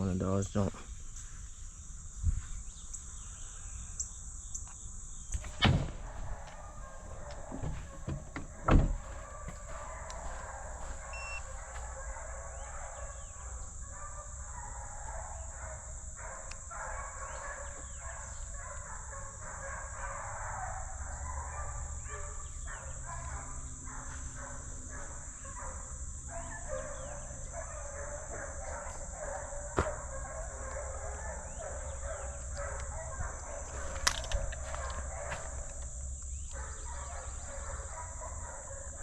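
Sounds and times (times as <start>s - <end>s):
distant hounds barking and baying: 2.5s - 39.0s.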